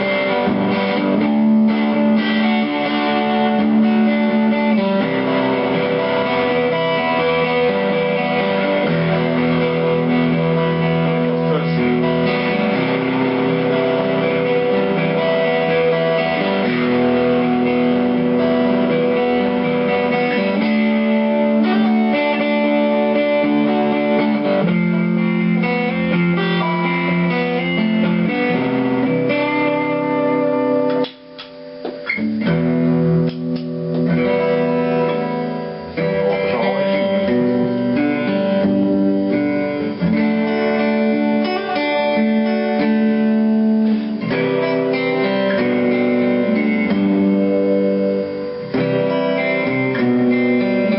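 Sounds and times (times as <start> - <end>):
electric guitar playing: 0.0 - 50.9.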